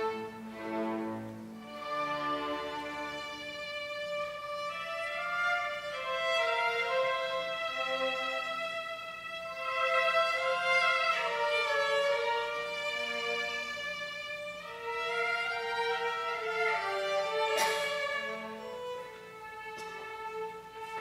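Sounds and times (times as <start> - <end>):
violin slow sustained notes: 0.0 - 21.0.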